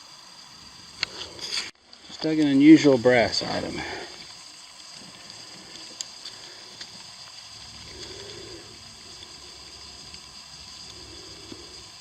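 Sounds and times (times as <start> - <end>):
faint steady high hiss: 0.0 - 12.0
small ticks: 0.8 - 2.7, 3.4 - 12.0.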